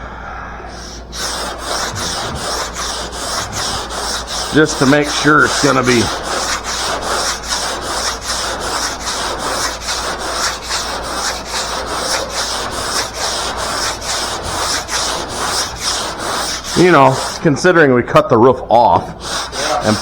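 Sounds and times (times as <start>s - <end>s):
sandpaper rubbing on metal: 1.1s - 17.5s, 19.0s - 20.0s.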